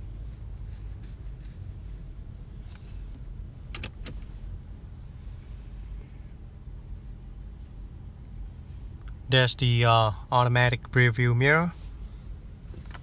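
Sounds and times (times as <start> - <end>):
low hum inside car cabin: 0.0 - 13.0.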